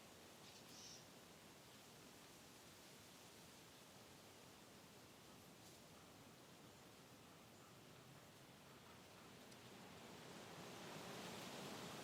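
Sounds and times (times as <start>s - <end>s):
wind through trees: 0.0s - 12.0s.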